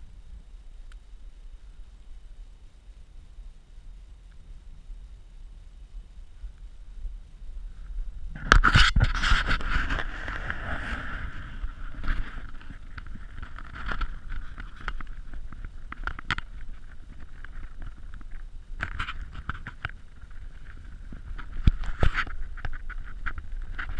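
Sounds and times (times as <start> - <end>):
rustling hiss: 0.0 - 23.9
wind rumble on microphone: 0.0 - 23.9.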